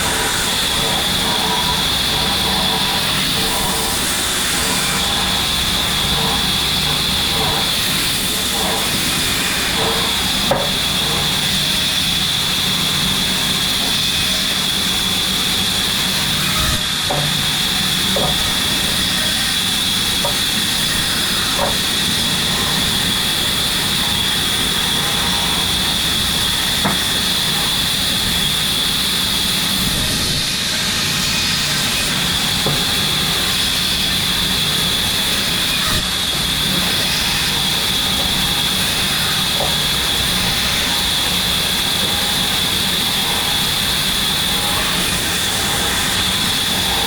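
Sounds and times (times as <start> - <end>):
machine whining: 0.0 - 47.0.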